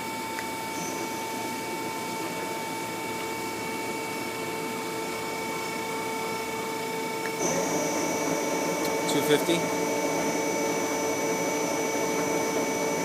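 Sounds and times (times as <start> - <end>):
lathe spindle whine: 0.0 - 13.0.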